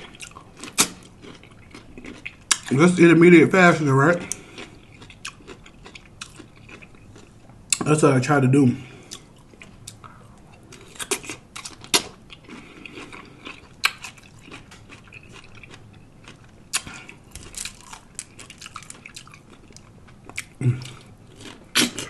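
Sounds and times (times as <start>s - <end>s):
chewing and crunching sandwich: 0.0s - 3.0s, 4.1s - 7.9s, 9.0s - 22.0s.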